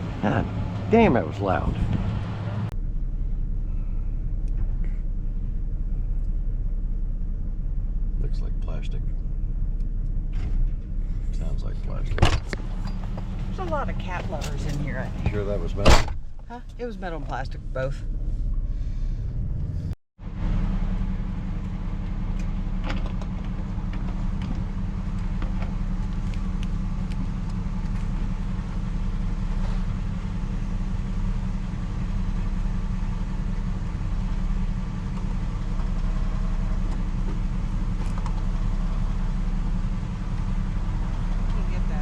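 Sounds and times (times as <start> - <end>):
road noise: 0.0 - 42.0
vehicle engine drone: 0.0 - 42.0.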